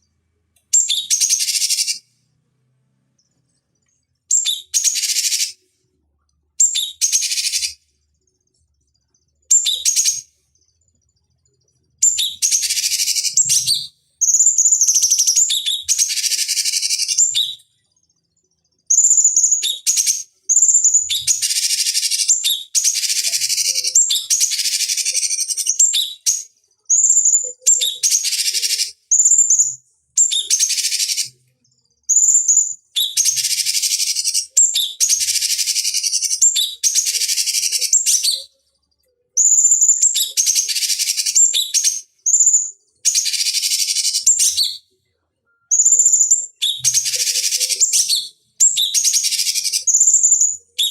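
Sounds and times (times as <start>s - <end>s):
bird singing rapid chatter: 0.7s - 2.0s, 4.3s - 5.6s, 6.6s - 7.8s, 9.5s - 11.2s, 11.8s - 17.8s, 18.9s - 31.4s, 32.0s - 38.6s, 39.4s - 44.8s, 45.7s - 50.9s.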